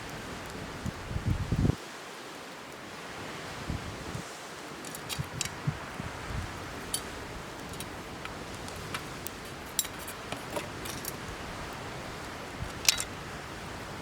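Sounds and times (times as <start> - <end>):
background hiss: 0.0 - 14.0
bonfire crackling and popping: 0.0 - 14.0.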